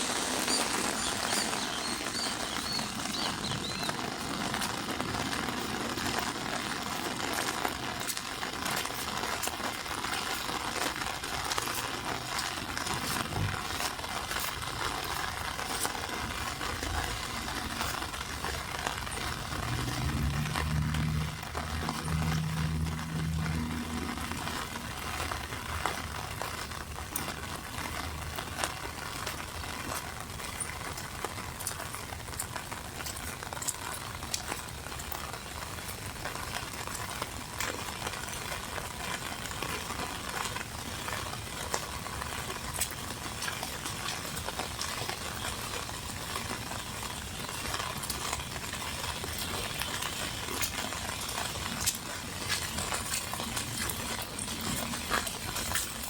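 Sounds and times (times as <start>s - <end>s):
raindrop ticks: 0.0s - 56.0s
steady rain falling: 0.0s - 56.0s.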